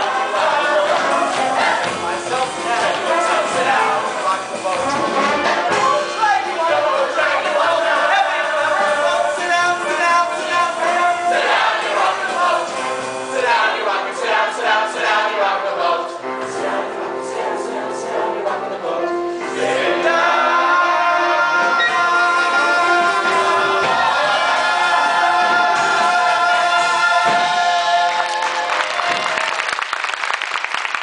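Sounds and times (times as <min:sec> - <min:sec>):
cast and chorus singing: 0:00.0 - 0:28.8.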